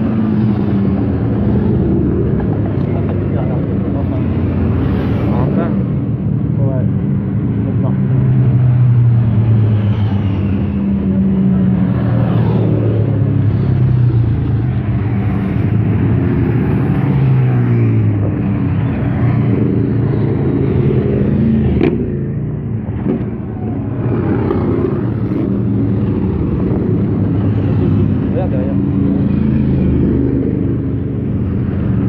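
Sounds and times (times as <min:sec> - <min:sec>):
motorcycles riding past: 0:00.0 - 0:32.0.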